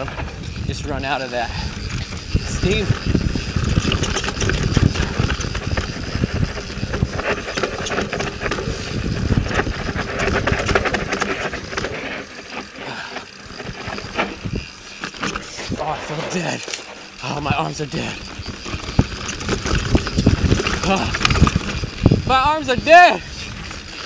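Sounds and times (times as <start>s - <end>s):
bike rattling and clicking: 0.0s - 24.0s
bike tyres on dirt and rock: 0.0s - 24.0s
wind buffeting microphone: 0.0s - 24.0s.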